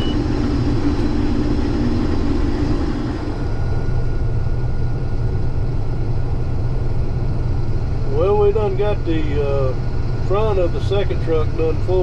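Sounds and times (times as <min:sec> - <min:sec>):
combine engine rumble: 0:00.0 - 0:12.0.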